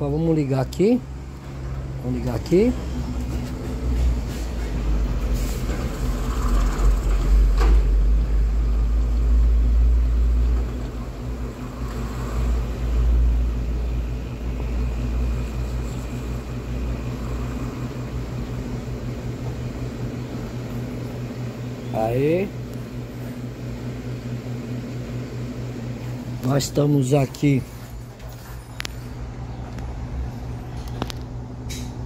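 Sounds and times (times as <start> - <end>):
freezer compressor humming: 0.0 - 32.0.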